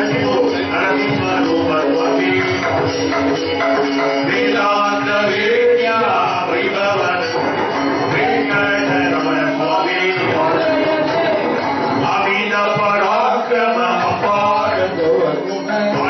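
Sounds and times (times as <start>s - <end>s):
men singing devotional song: 0.0s - 16.0s.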